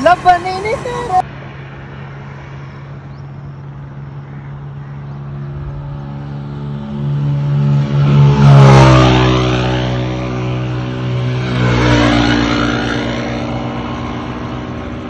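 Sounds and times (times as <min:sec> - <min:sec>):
motorcycle engine approaching: 0:00.0 - 0:15.0.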